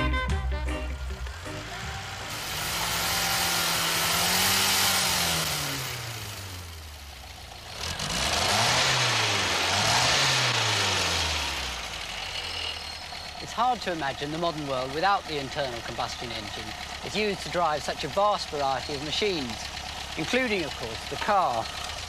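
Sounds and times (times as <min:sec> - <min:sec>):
car engine revving: 0:00.9 - 0:22.0.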